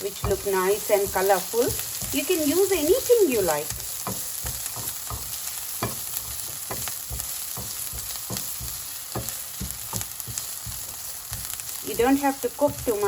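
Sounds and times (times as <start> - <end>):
vegetables sizzling in hot oil: 0.0 - 13.0
spatula scraping against pan: 0.1 - 13.0.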